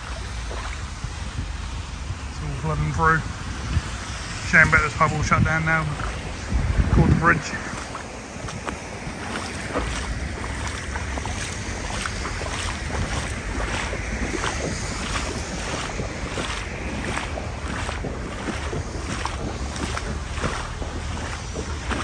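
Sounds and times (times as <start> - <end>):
water sloshing around wading legs: 0.0 - 2.6, 3.4 - 22.0
wind rumble on microphone: 0.0 - 22.0.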